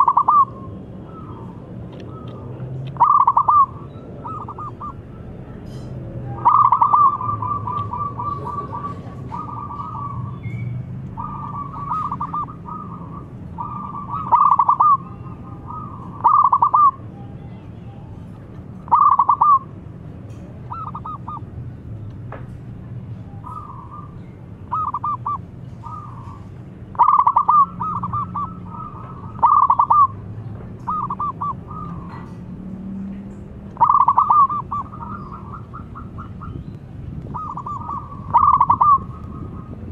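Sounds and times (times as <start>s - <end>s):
dove cooing: 0.0s - 17.0s, 18.9s - 19.7s, 20.7s - 21.5s, 23.4s - 32.4s, 33.8s - 39.9s.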